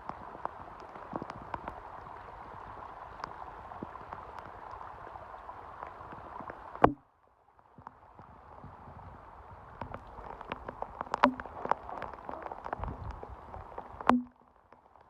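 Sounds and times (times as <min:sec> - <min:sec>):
drip-like ticks: 0:00.0 - 0:07.0, 0:09.8 - 0:15.0
watery patter: 0:00.0 - 0:07.0, 0:07.6 - 0:15.0.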